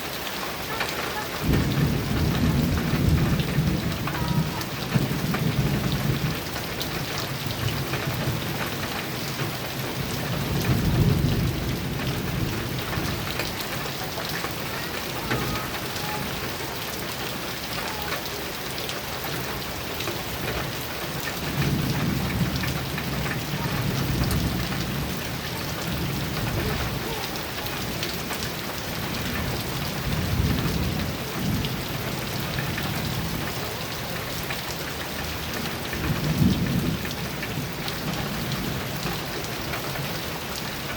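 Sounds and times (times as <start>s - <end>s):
heavy rain on a metal roof: 0.0s - 40.9s
rolling thunder: 1.4s - 16.8s, 20.3s - 34.4s, 35.2s - 40.2s.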